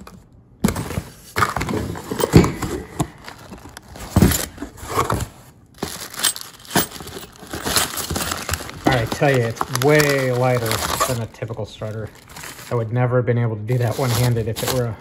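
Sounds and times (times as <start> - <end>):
cardboard and plastic rustling: 0.0 - 13.0, 13.7 - 15.0.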